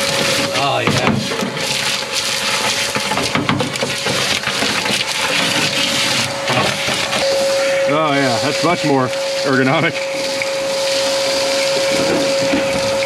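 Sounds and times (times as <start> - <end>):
debris rattling through hose: 0.0 - 13.0
vacuum cleaner whining: 0.0 - 13.0.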